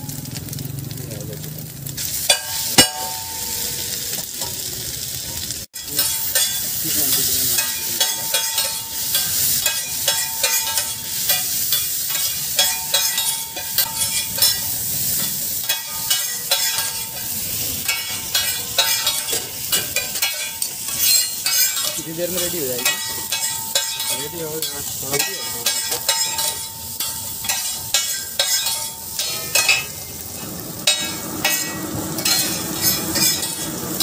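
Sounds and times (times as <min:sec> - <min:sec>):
food sizzling: 0:00.0 - 0:34.0
spatulas clacking on griddle: 0:02.1 - 0:04.7, 0:05.8 - 0:34.0.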